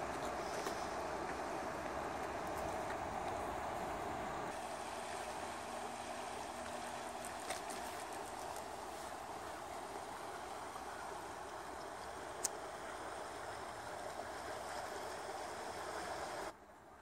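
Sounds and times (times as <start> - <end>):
river rushing over stones: 0.0 - 16.6.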